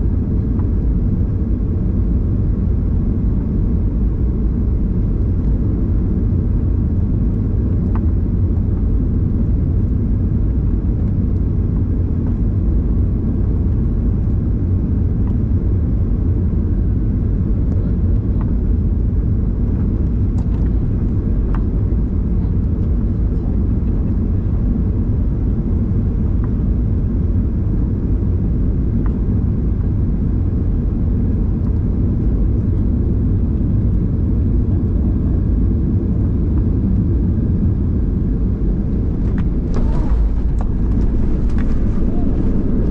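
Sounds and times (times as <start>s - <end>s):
airplane engines and airflow rumble: 0.0s - 42.9s.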